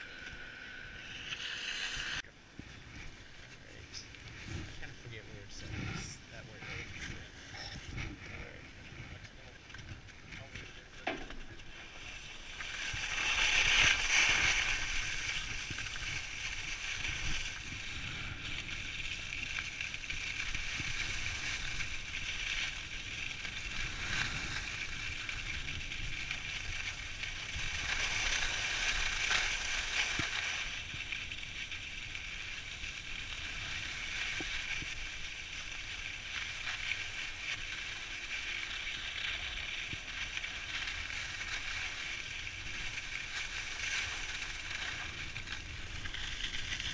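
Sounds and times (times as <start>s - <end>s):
skis scraping on snow: 0.0s - 46.9s.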